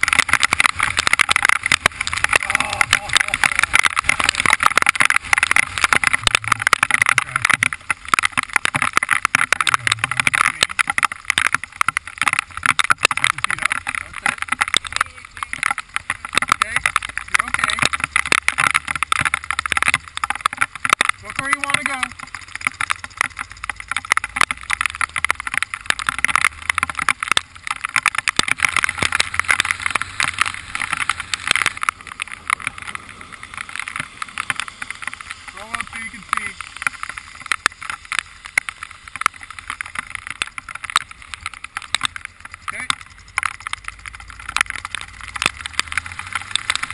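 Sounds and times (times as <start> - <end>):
heavy rain hitting microphone: 0.0 - 46.9
motorcycle engine running: 0.0 - 46.9.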